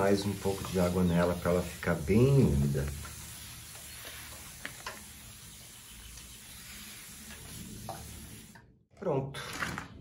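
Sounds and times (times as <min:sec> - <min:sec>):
spray bottle misting: 0:00.0 - 0:08.6
faint steady hiss: 0:00.0 - 0:08.7.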